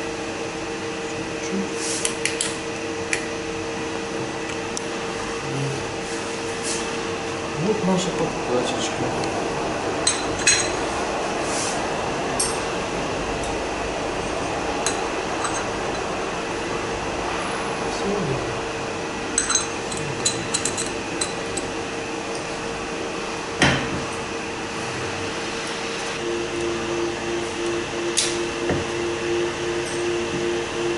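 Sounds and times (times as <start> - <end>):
workshop hum: 0.0 - 30.9.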